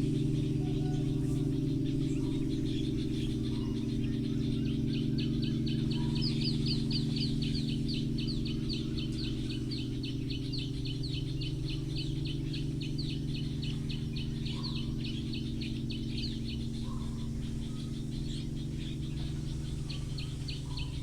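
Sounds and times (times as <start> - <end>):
singing bowls ringing: 0.0 - 21.0.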